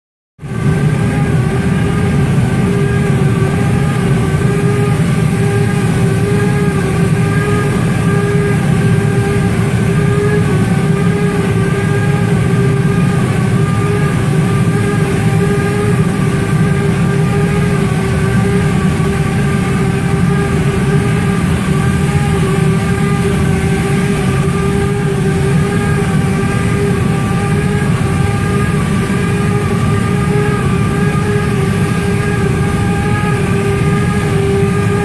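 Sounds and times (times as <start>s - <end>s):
spray rig drone: 0.4s - 35.0s
steady hum: 0.4s - 35.0s.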